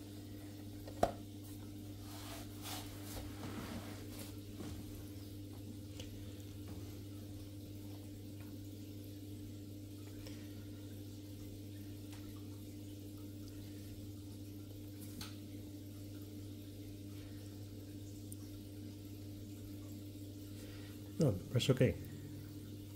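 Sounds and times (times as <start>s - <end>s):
fainter higher hum: 0.0s - 22.9s
low electrical mains hum: 0.0s - 22.9s.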